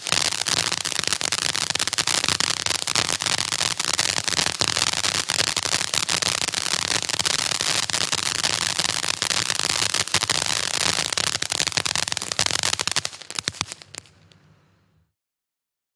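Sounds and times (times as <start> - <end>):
fireworks crackling: 0.0 - 14.6.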